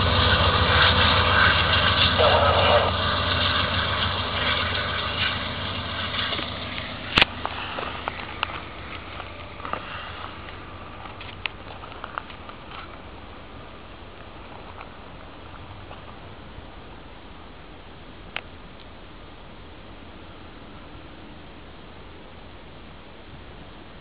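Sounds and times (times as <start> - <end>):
diesel train engine rumble: 0.0 - 24.0.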